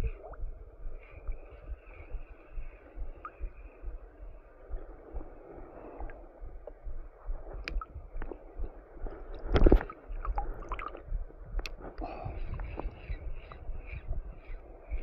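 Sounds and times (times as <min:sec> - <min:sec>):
shallow water gurgling: 0:00.0 - 0:15.0.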